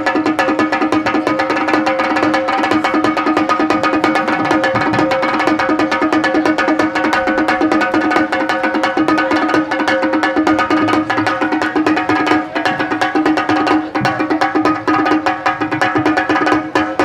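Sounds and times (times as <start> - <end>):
frame drum beaten with sticks: 0.0 - 17.0.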